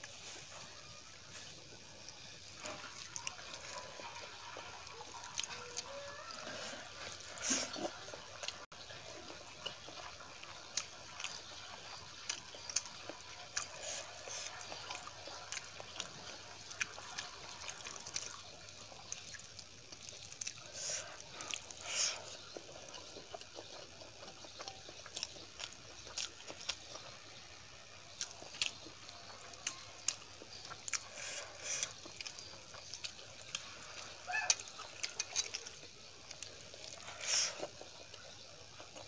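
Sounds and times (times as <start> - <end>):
chewing and lip smacks: 2.0 - 39.0.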